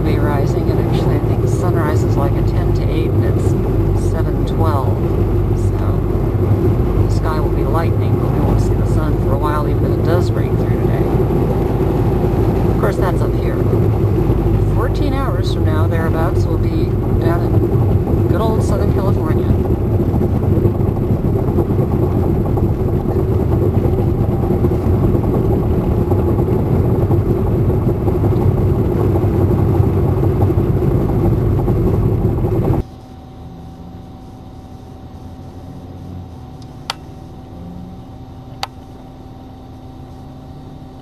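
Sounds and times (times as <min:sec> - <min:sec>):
engine and road rumble: 0:00.0 - 0:41.0
quiet steady hum: 0:00.0 - 0:41.0.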